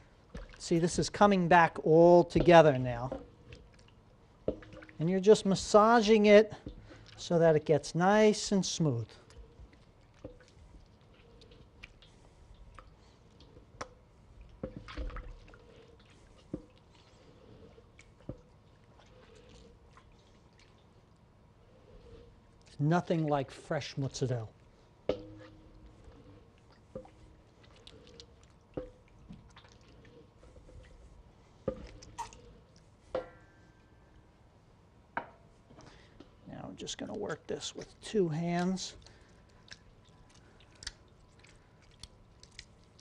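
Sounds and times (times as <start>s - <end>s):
wet squishing of cheese curd: 0.0s - 43.0s.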